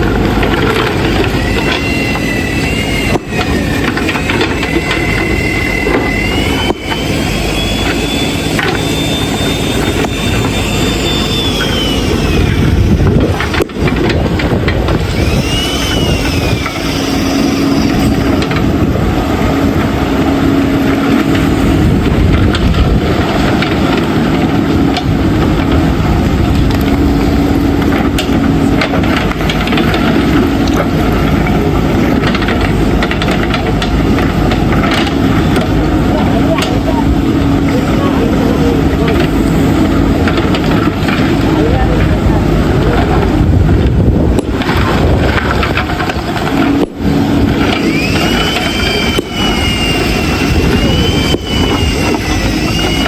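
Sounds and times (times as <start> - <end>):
diesel engine running: 0.0 - 53.0
high whine: 0.0 - 53.0.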